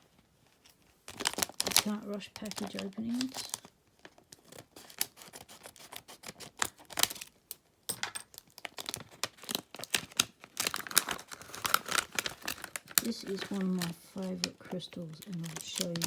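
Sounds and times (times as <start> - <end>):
packaging crinkling and tearing: 0.5 - 7.6, 8.2 - 16.0.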